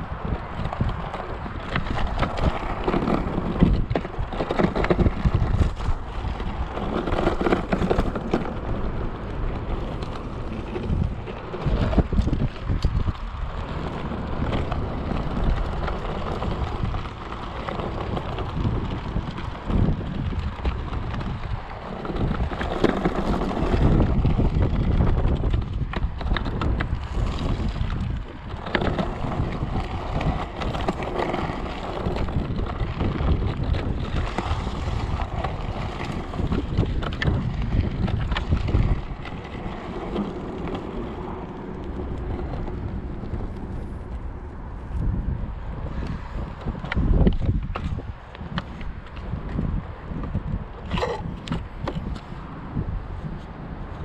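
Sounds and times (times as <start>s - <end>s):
scooter rattles and knocks: 0.0s - 54.0s
tyres rumbling on dirt: 0.0s - 54.0s
wind buffeting microphone: 0.0s - 54.0s.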